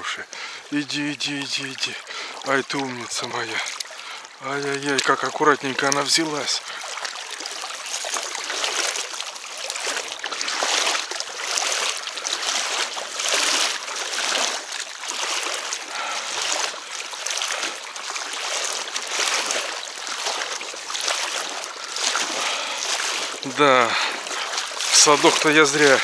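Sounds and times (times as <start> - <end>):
fish splashing in water: 0.0 - 26.0.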